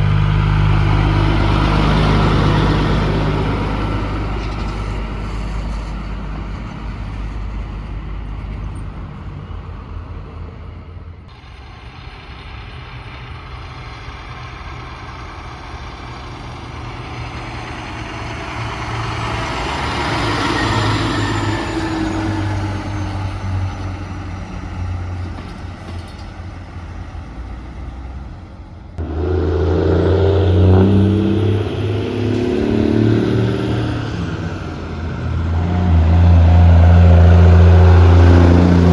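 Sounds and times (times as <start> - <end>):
engine with low hum: 0.0 - 38.9
heavy trucks driving past: 0.0 - 38.9.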